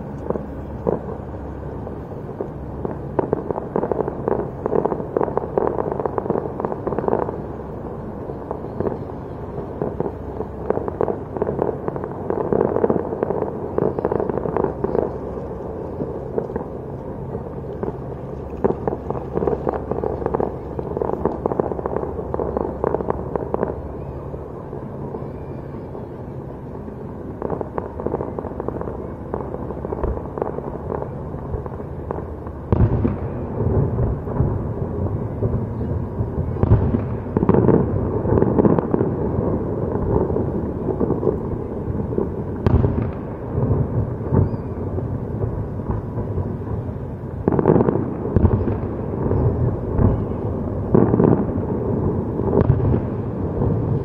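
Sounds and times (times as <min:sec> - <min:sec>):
fireworks bangs and crackles: 0:00.0 - 0:54.0
steady low rumble: 0:00.0 - 0:54.0.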